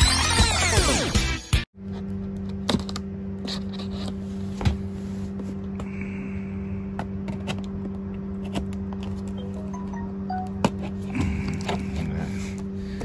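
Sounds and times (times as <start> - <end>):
steady low hum: 1.8 - 13.0.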